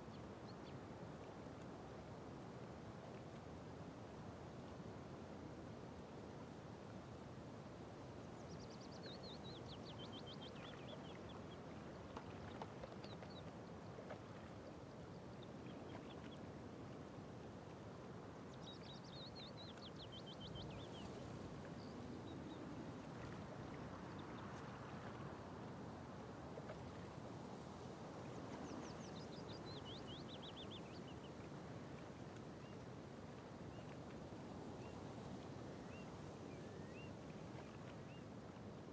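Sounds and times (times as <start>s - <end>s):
water: 0.0s - 38.9s
wind: 0.0s - 38.9s.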